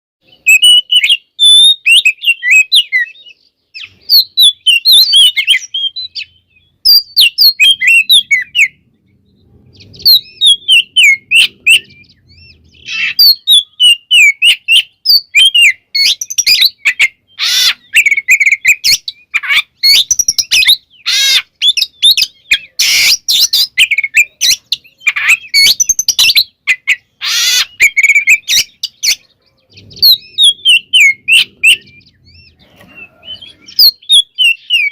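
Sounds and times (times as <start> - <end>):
bird singing whistled phrases: 0.2 - 8.8, 9.4 - 34.9
harsh rasping bird notes: 0.2 - 34.9.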